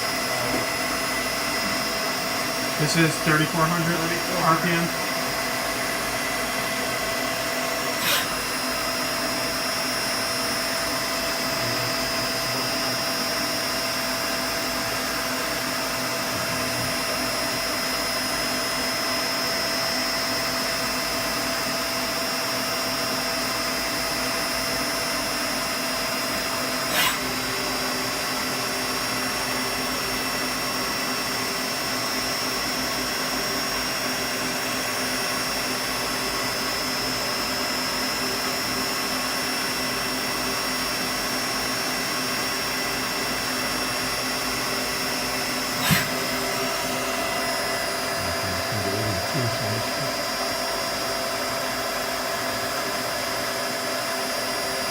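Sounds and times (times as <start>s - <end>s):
machine whir with high whine: 0.0s - 54.9s.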